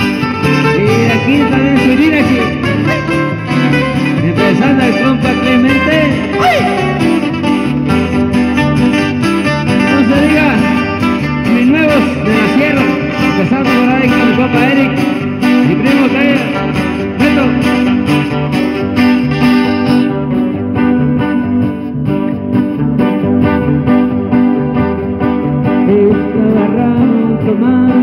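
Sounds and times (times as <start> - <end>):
acoustic guitars strumming: 0.0 - 28.0
bass line: 0.0 - 28.0
live band music: 0.0 - 28.0.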